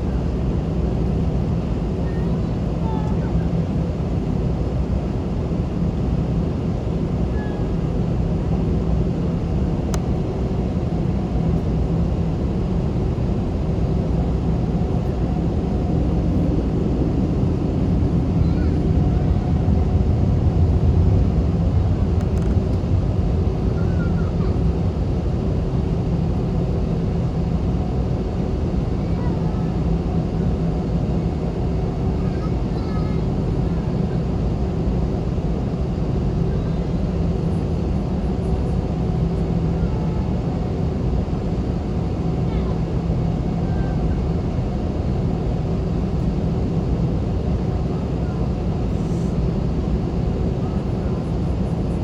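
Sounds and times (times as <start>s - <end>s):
jet engines in aircraft cabin: 0.0s - 52.0s.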